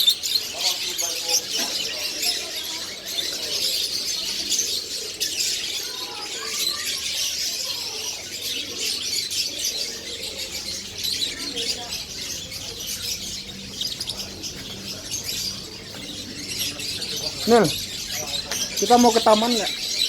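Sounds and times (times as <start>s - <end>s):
caged birds chirping: 0.0s - 20.0s.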